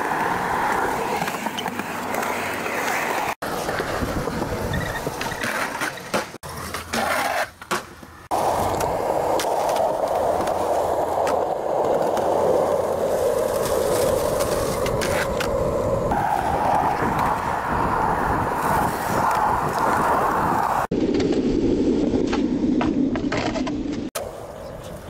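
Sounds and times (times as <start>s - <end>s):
skateboard wheels rolling on concrete: 0.0s - 25.0s.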